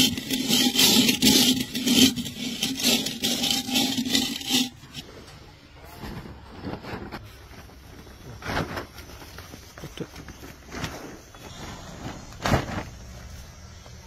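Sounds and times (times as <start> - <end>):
plastic tarpaulin rustling: 0.0 - 13.8.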